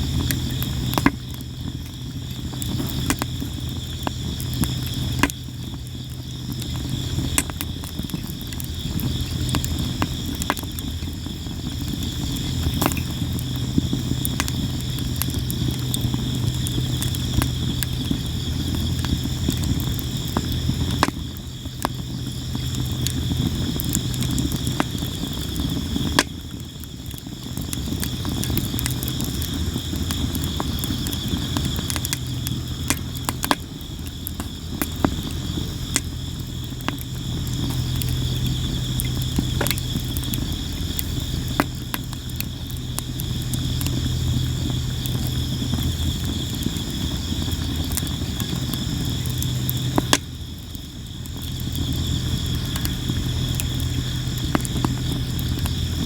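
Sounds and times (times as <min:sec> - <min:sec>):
campfire crackling and popping: 0:00.0 - 0:56.0
insects chirping: 0:00.0 - 0:56.0
low rumble of flames: 0:00.0 - 0:56.0.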